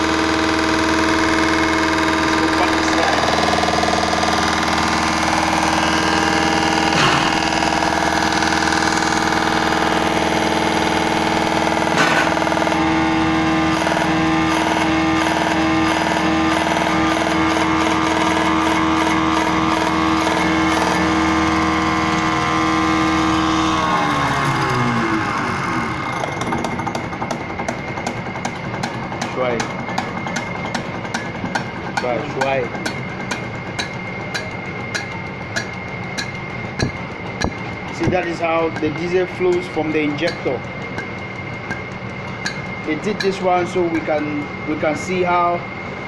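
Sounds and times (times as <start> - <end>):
test bench machine humming: 0.0 - 46.0.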